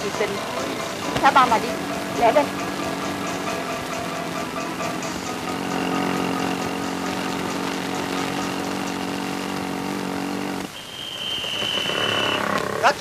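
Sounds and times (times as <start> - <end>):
car engine running: 0.0 - 10.7.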